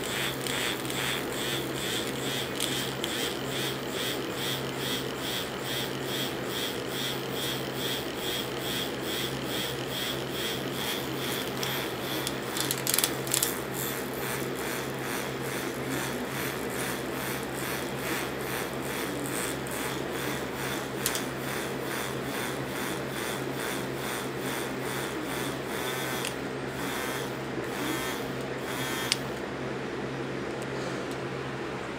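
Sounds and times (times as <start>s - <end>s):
vibrators buzzing: 0.0s - 30.1s.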